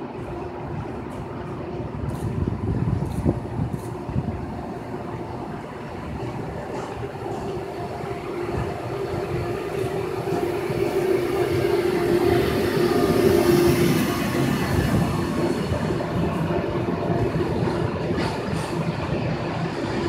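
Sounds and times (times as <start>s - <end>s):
electric locomotive hum: 0.0s - 20.0s.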